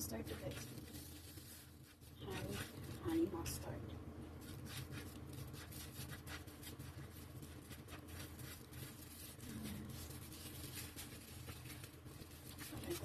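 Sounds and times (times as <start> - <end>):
low steady hum: 0.0 - 13.0
knife scraping on bread: 0.3 - 3.0, 4.4 - 13.0.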